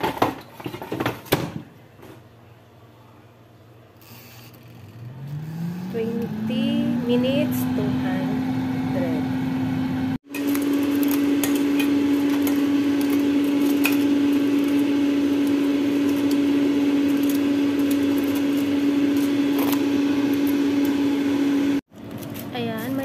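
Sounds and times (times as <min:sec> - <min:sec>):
fan motor humming: 0:03.9 - 0:23.0.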